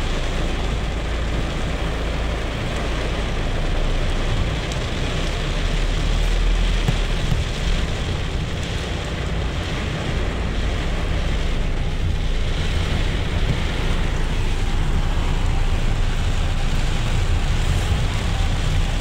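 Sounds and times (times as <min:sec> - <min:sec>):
heavy rain: 0:00.0 - 0:19.0
tyres on a flooded road: 0:00.0 - 0:19.0.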